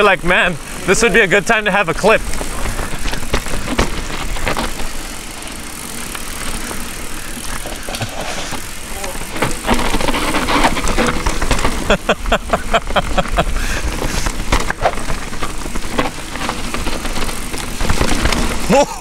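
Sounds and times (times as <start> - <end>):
bike rattling over bumps: 0.0 - 19.0
bike tyres on dirt: 0.0 - 19.0.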